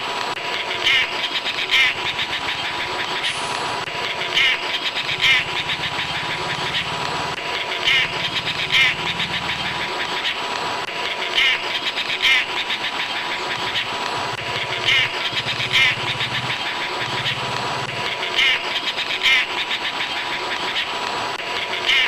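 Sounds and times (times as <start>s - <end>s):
bird rasping chatter calls: 0.6s - 10.5s, 11.2s - 21.0s.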